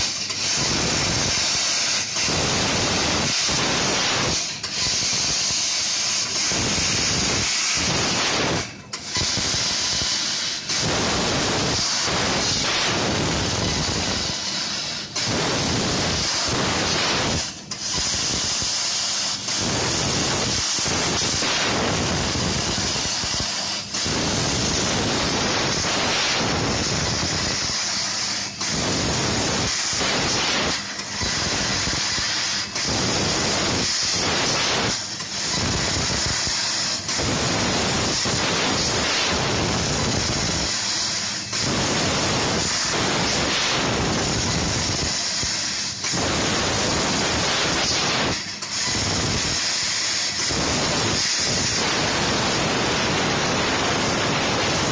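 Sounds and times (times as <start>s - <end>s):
laser cutter hissing: 0.0s - 54.9s.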